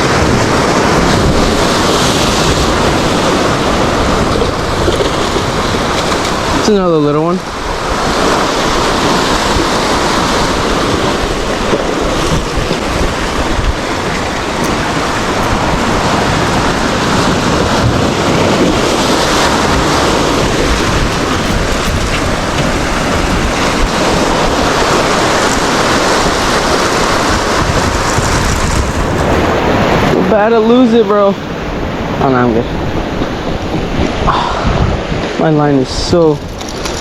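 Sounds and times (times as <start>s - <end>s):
ocean surf: 0.0s - 37.0s
wind on microphone: 0.0s - 37.0s.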